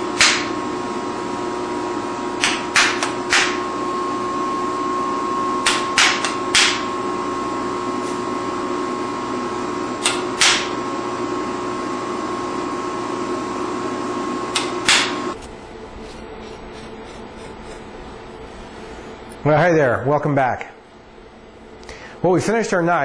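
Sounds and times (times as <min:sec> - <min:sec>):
mechanical hum with whine: 0:00.0 - 0:23.0.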